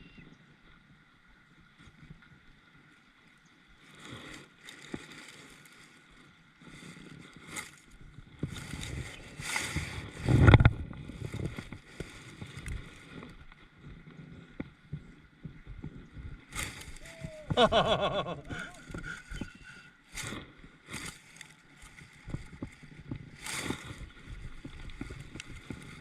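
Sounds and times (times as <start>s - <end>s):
water sloshing around a kayak: 0.8s - 26.0s.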